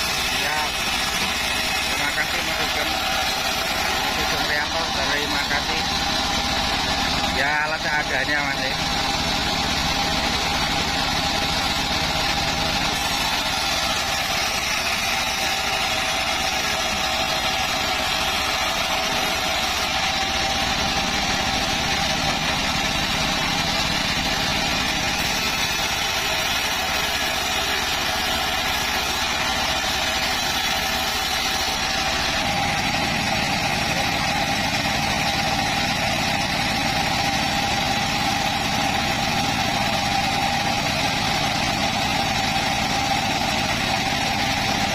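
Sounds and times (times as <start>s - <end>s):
band saw droning: 0.0s - 44.9s.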